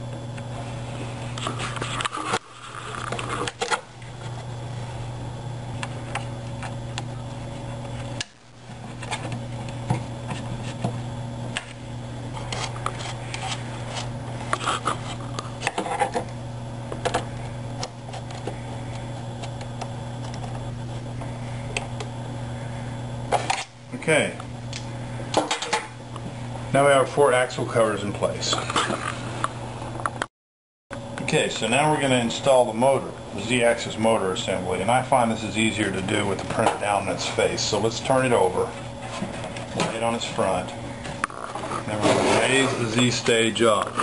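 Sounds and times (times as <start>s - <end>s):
steady low hum: 0.0s - 30.3s, 30.9s - 44.0s.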